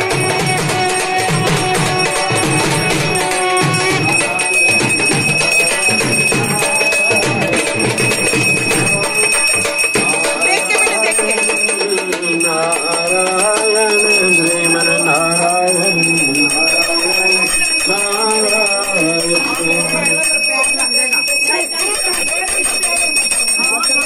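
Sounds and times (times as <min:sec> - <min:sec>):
rhythmic percussion: 0:00.0 - 0:24.0
steady high ringing tone: 0:00.0 - 0:24.0.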